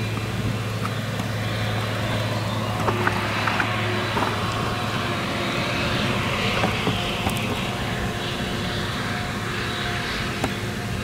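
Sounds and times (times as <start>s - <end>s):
forage harvester machine hum: 0.0s - 11.0s.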